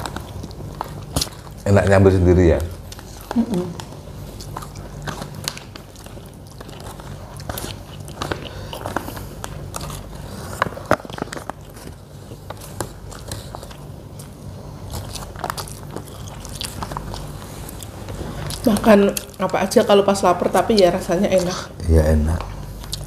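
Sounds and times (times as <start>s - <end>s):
person chewing and crunching: 0.0s - 19.5s, 21.4s - 23.0s
steady low hum: 0.0s - 23.0s.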